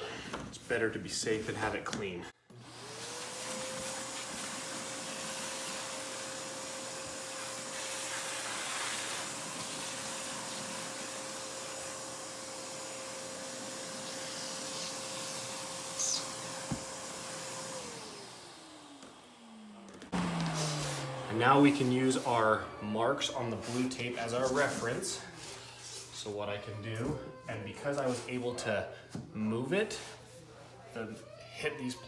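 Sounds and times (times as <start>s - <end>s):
vacuum cleaner running: 2.5s - 28.5s.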